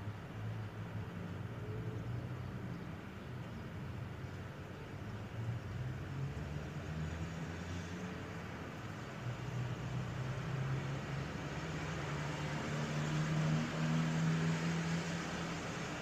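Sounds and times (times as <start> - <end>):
city street ambience: 0.0 - 16.0.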